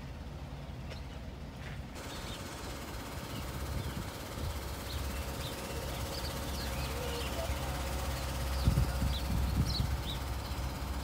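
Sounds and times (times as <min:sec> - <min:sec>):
small birds chirping: 0:00.5 - 0:11.0.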